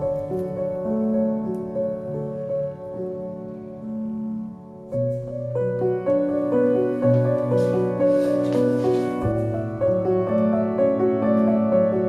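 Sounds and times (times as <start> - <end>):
calm piano melody: 0.0 - 12.0.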